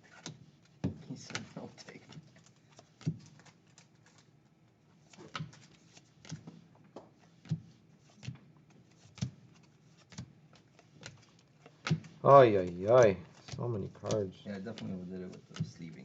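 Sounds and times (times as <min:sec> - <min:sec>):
cards being handled: 0:00.0 - 0:04.4, 0:05.0 - 0:16.0.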